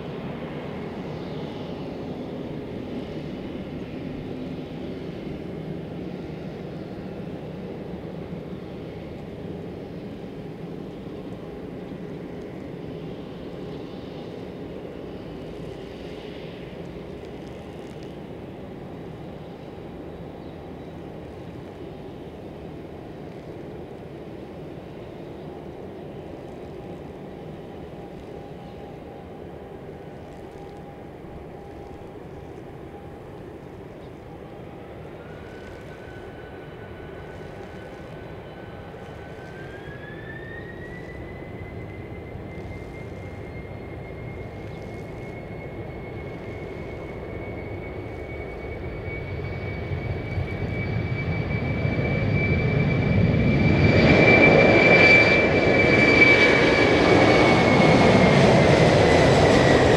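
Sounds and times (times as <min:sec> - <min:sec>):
distant jet engines rumbling: 0:00.0 - 0:59.9.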